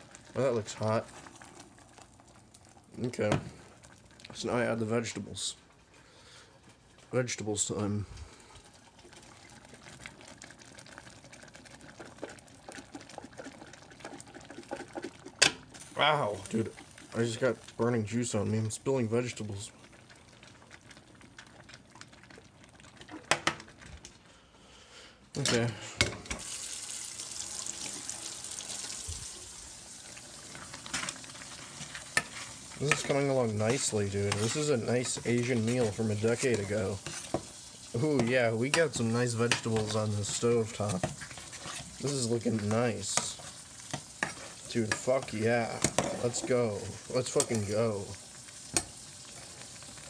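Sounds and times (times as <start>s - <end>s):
crackling splashes: 0.0s - 5.0s, 6.2s - 24.3s, 26.4s - 50.0s
sauce bubbling in a saucepan: 0.0s - 24.8s, 25.7s - 50.0s.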